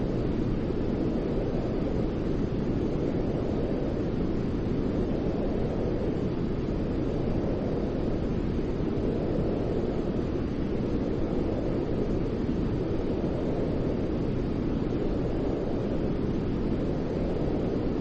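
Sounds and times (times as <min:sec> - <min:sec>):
low-pitched white noise: 0:00.0 - 0:18.0.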